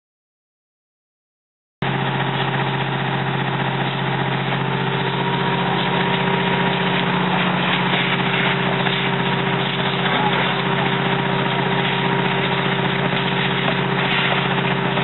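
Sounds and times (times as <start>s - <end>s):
fire engine motor droning: 1.8s - 15.0s
noisy wash of pumping water: 1.8s - 15.0s.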